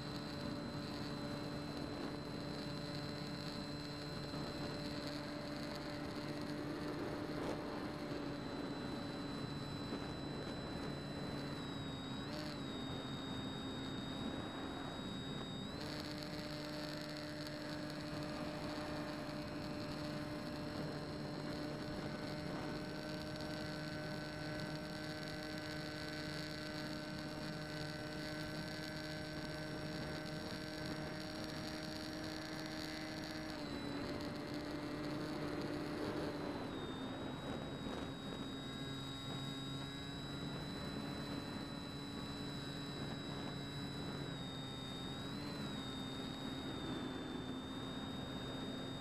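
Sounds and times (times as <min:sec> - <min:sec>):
electric motor propeller whine: 0:00.0 - 0:49.0.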